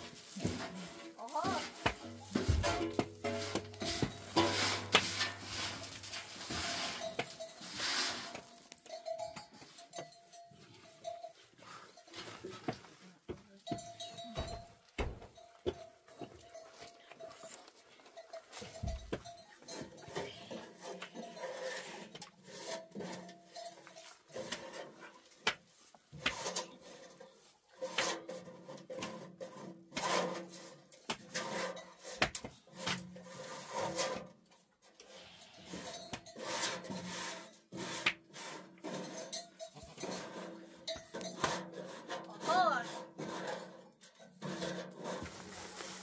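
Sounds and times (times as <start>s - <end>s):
hands scraping straw on wood: 0.0s - 13.1s, 20.7s - 34.4s, 35.0s - 43.8s, 44.4s - 46.0s.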